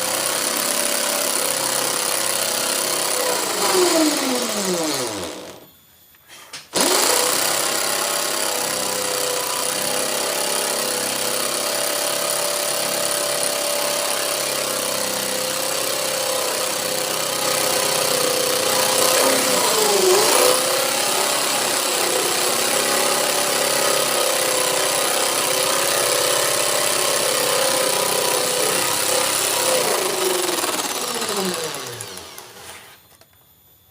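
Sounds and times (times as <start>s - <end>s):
power tool motor cutting wood: 0.0s - 5.7s, 6.8s - 33.0s.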